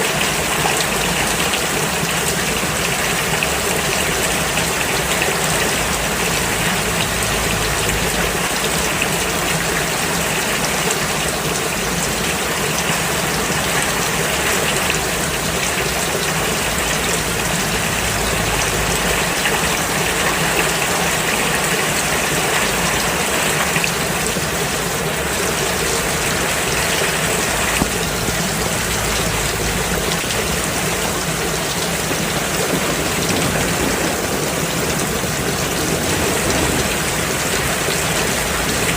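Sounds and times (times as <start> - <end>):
rain falling on road: 0.0 - 38.9.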